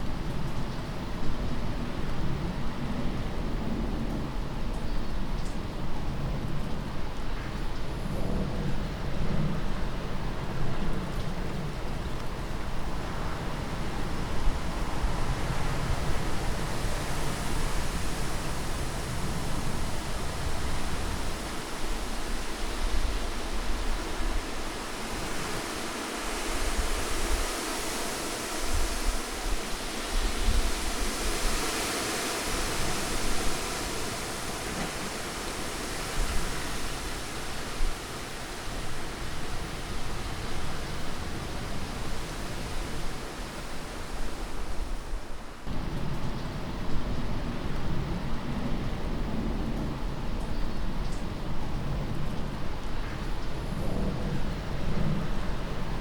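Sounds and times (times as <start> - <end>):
wind blowing: 7.9 - 56.0.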